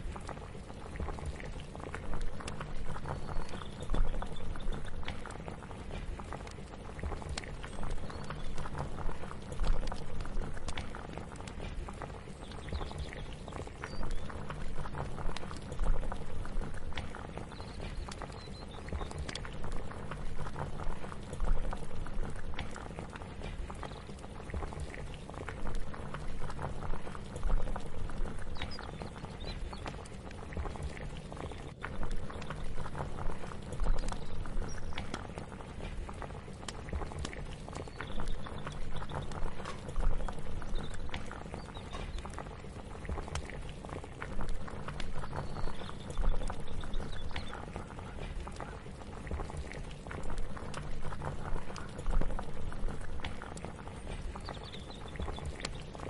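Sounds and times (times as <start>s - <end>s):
low steady hum: 0.0s - 56.0s
pot of liquid bubbling: 0.0s - 56.0s.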